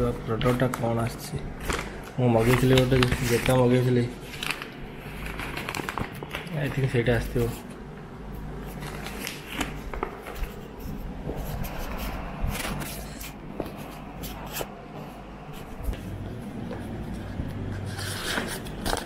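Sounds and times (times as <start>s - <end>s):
paper mailer rustling and tearing: 0.3s - 7.8s, 8.4s - 14.8s, 17.2s - 19.0s.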